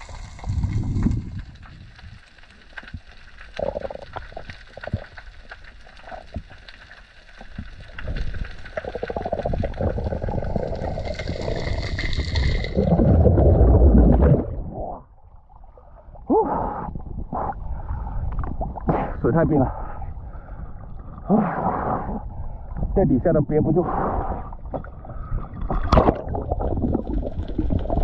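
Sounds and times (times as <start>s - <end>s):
underwater clicks and crackles: 0.0s - 16.2s, 16.9s - 21.3s, 22.2s - 23.8s, 24.4s - 28.0s
deep underwater rumble: 0.0s - 28.0s
water rushing and bubbling: 0.0s - 28.0s.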